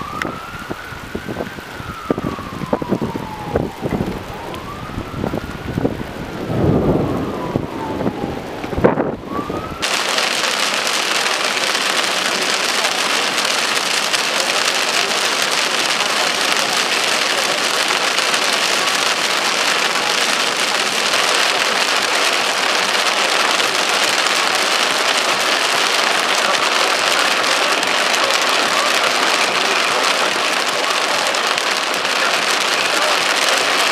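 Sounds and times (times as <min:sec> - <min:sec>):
heavy rain on a car: 0:00.0 - 0:33.9
tyres swishing on wet road: 0:00.0 - 0:33.9.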